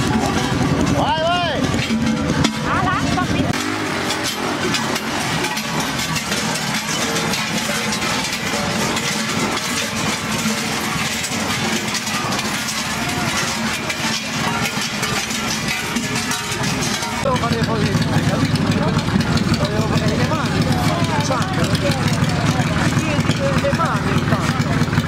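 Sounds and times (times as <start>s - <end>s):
cowbells clanging: 0.0s - 25.0s
crowd noise: 0.0s - 25.0s
engine running: 0.0s - 25.0s.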